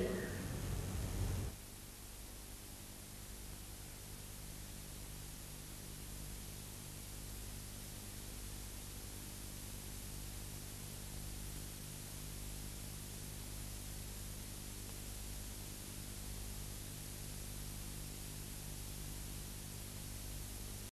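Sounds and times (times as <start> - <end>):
analogue recording hiss: 0.0 - 20.9
low electrical hum: 0.0 - 20.9.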